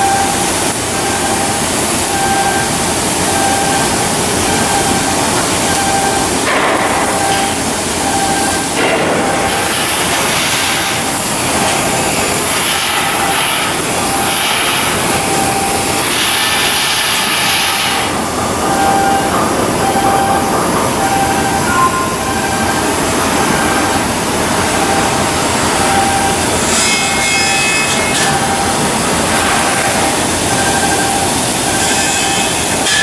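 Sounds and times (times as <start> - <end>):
loud industrial work noise: 0.0 - 33.0.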